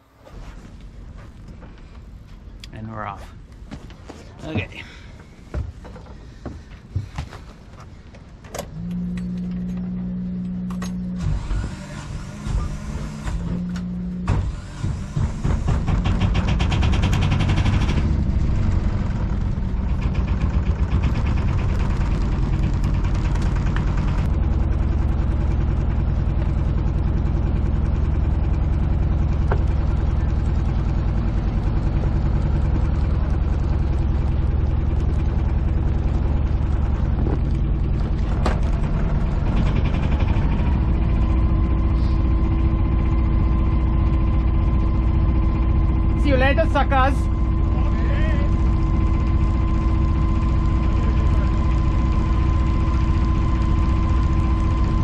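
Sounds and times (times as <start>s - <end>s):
boat engine running: 4.5s - 55.0s
engine rattle: 4.5s - 55.0s.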